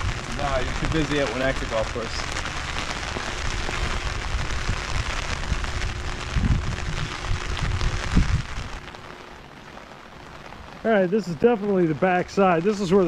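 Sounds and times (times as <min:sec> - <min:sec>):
low rumbles: 0:00.0 - 0:11.7
rain pattering on umbrella: 0:00.0 - 0:13.0.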